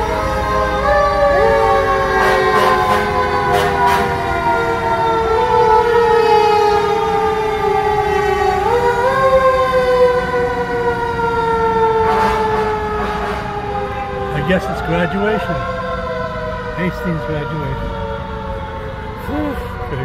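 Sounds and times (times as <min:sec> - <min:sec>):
fire engine siren wailing: 0:00.0 - 0:20.0.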